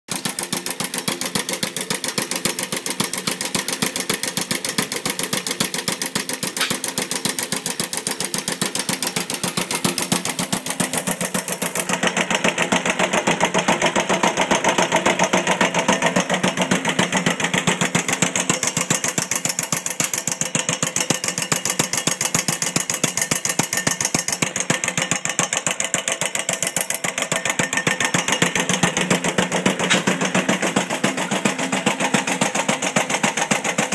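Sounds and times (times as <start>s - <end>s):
two-stroke pump engine running: 0.1s - 33.9s.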